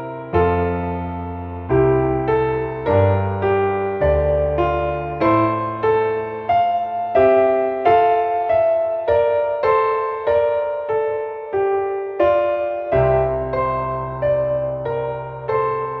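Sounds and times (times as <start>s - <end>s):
calm piano melody: 0.0s - 16.0s.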